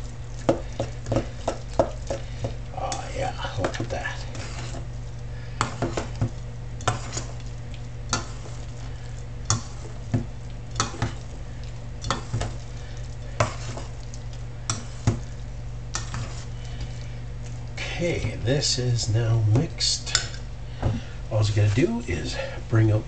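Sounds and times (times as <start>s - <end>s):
spoon stirring batter in bowl: 0.0s - 20.4s
steady low hum: 0.0s - 23.0s.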